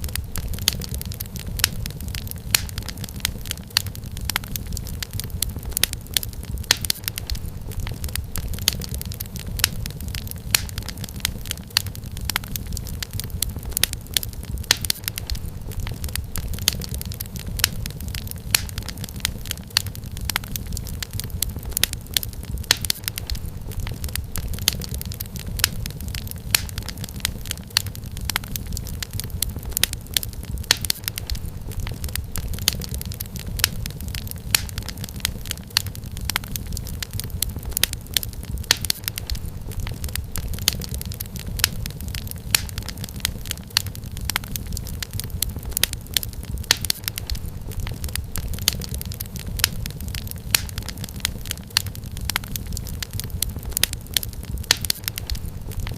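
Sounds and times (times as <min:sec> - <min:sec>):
low rumble of burning logs: 0:00.0 - 0:55.9
wood fire crackling: 0:00.0 - 0:55.9.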